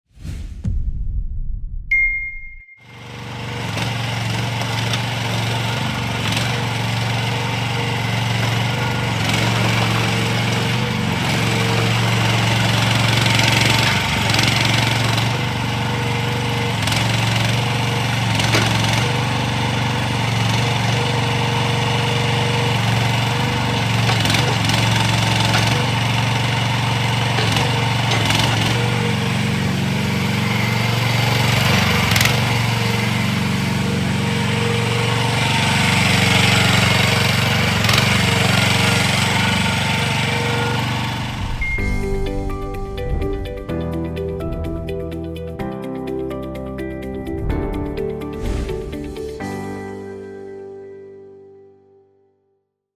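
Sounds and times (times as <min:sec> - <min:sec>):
excavator engine running: 0:02.8 - 0:49.8.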